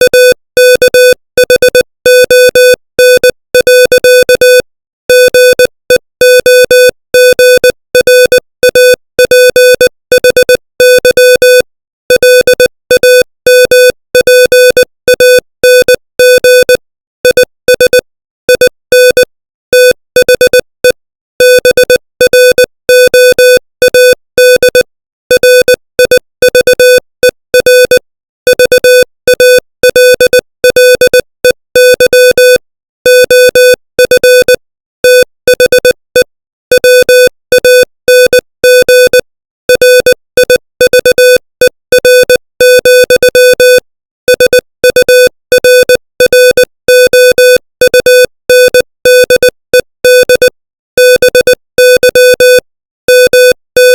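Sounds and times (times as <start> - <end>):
morse code beeps: 0.0 - 53.9.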